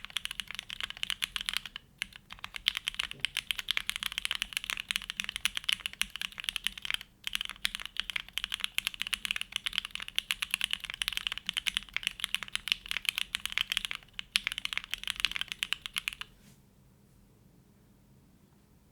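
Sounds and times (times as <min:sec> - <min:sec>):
fast typing on mechanical keyboard: 0:00.0 - 0:16.3.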